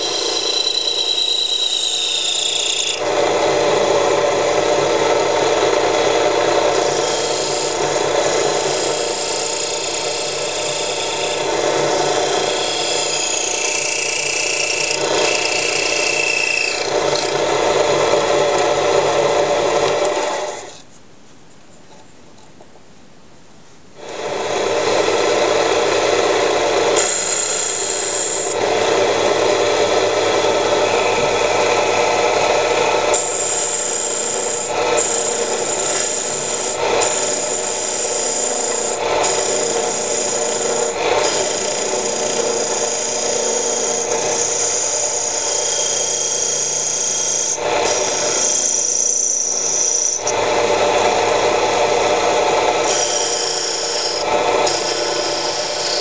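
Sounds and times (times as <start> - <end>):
wood lathe running: 0.0 - 20.8, 24.0 - 56.0
chisel scraping spinning wood: 0.0 - 20.9, 25.1 - 50.4, 51.9 - 56.0.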